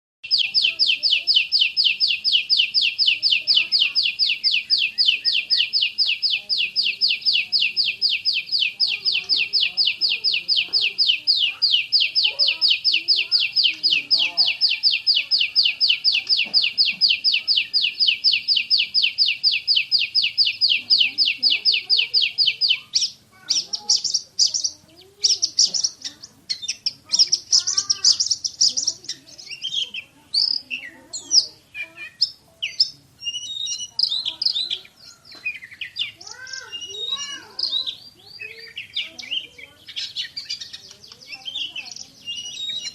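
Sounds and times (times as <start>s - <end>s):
magpie-robin singing sharp notes: 0.2s - 42.9s.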